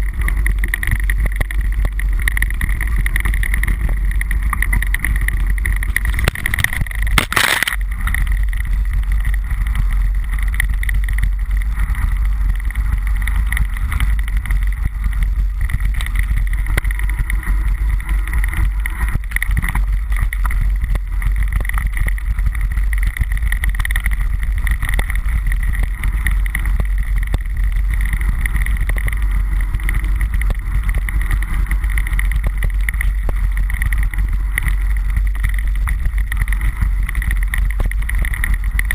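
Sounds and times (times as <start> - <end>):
bike rattling and clicking: 0.0 - 38.9
wind buffeting microphone: 0.0 - 38.9.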